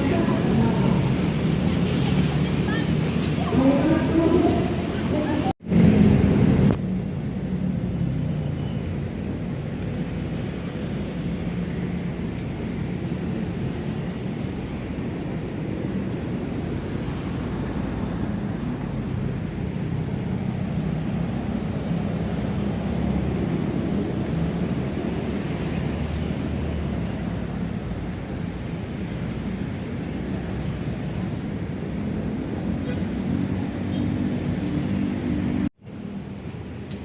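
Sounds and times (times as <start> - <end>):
heavy road traffic rumble: 0.0 - 37.0.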